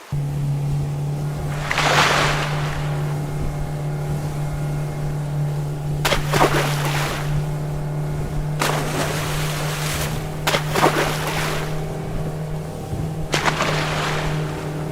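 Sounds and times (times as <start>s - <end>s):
motorboat engine droning: 0.0s - 14.9s
water splashing and rushing: 0.0s - 14.9s.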